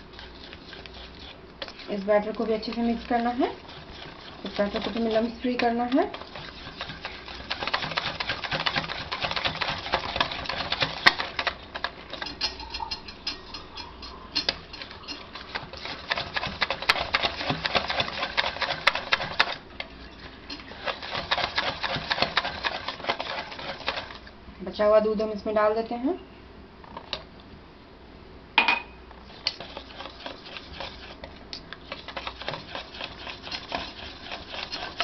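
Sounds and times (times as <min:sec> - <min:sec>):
whisk clicking in a metal bowl: 0:00.0 - 0:19.6, 0:20.5 - 0:24.3, 0:29.3 - 0:35.0.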